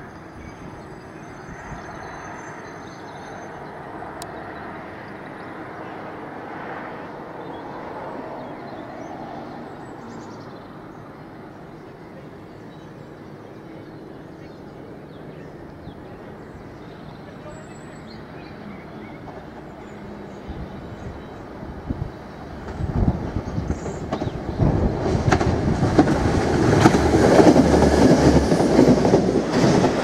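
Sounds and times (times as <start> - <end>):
diesel locomotives rumbling: 0.0 - 30.0
diesel train approaching: 0.0 - 30.0.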